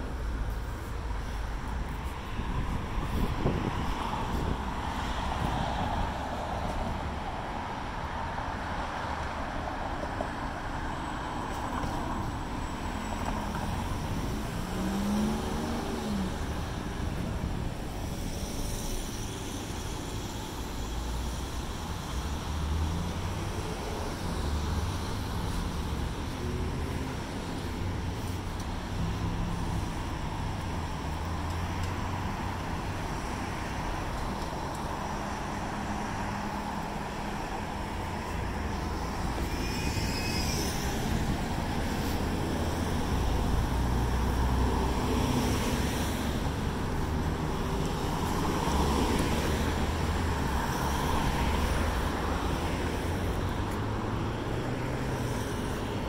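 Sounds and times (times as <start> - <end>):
passing motor vehicles rumble: 0.0 - 56.0.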